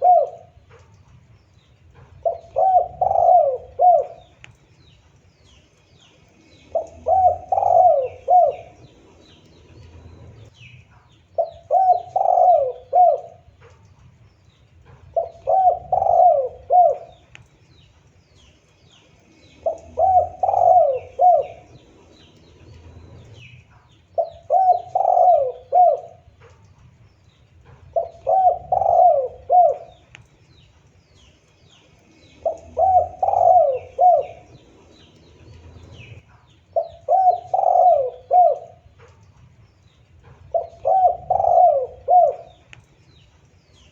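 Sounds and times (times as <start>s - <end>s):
dove cooing: 0.0s - 1.2s, 1.8s - 4.6s, 6.3s - 10.5s, 11.4s - 13.8s, 14.8s - 17.5s, 19.3s - 31.3s, 32.0s - 42.8s.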